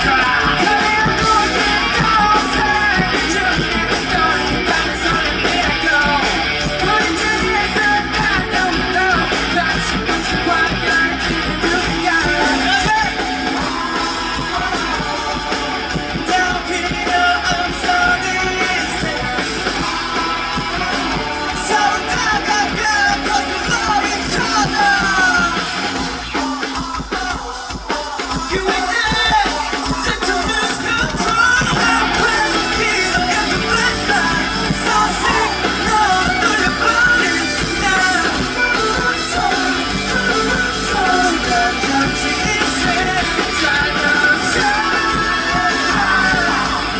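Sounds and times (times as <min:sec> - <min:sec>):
electric guitar: 0:00.0 - 0:46.9
live rock band playing: 0:00.0 - 0:46.9
person singing: 0:00.0 - 0:46.9.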